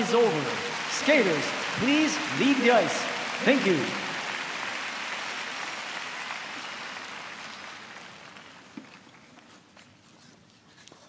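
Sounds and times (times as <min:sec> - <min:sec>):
arena crowd applauding: 0:00.0 - 0:09.4.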